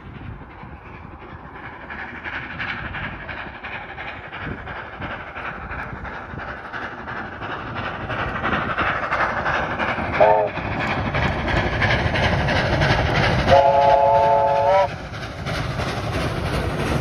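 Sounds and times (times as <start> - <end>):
steam hiss: 0.0 - 17.0
train wheel noise: 0.0 - 17.0.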